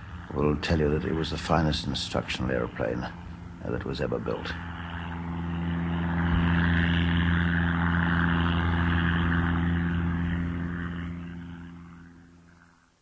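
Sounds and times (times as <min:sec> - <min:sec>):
biplane engine and propeller: 0:00.0 - 0:13.0.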